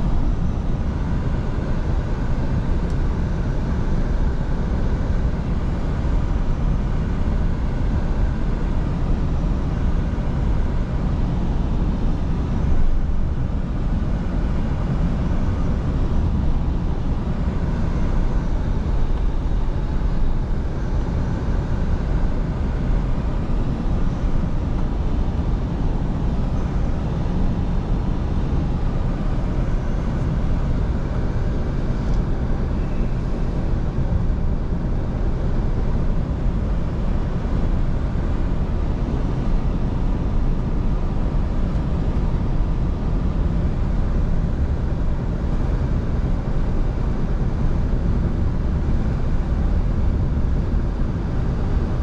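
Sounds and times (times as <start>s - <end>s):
truck engine drone: 0.0s - 47.2s.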